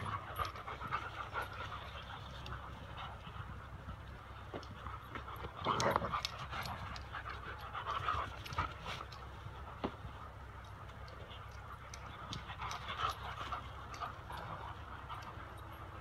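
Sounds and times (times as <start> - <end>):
dogs panting: 0.0 - 16.0.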